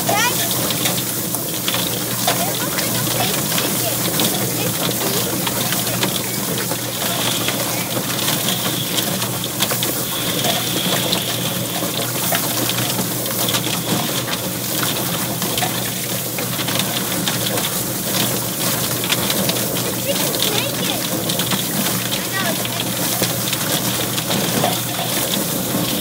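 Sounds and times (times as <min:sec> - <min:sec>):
garden hose spraying: 0:00.0 - 0:26.0
motor hum: 0:00.0 - 0:26.0.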